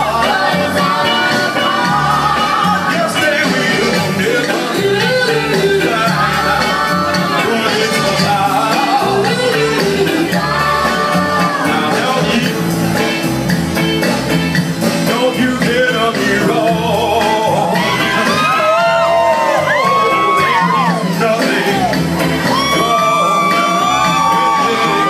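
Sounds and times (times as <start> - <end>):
loud music with singer: 0.0 - 25.0.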